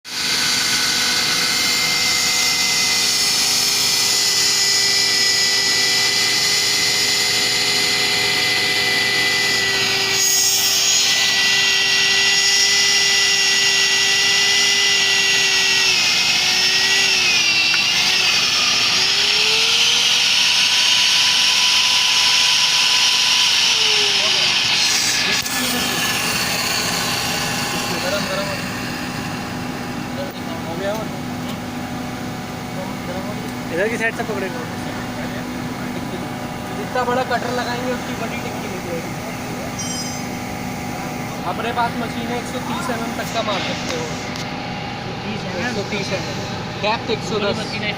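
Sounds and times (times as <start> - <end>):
drilling machine motor whine: 0.1 - 47.9.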